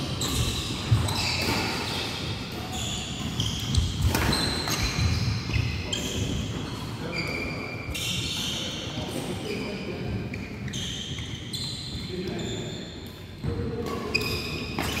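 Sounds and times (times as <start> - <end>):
court shoes squeaking: 0.0 - 15.0.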